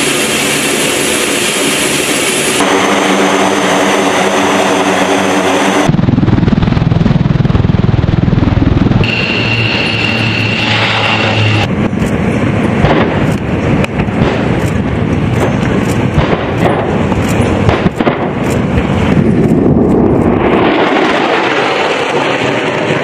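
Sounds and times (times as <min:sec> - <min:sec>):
continuous rumble: 0:00.0 - 0:23.0
pyrotechnic explosions: 0:00.0 - 0:23.0
turboprop aircraft hum: 0:00.0 - 0:23.0.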